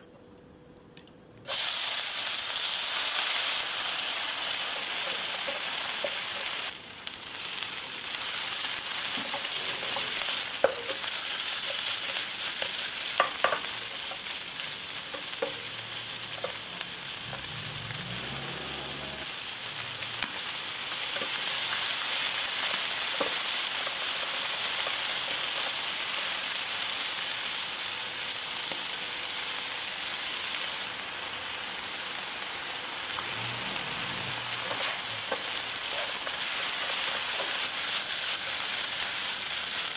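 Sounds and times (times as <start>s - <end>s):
oil sizzling in frying pan: 1.5s - 39.9s.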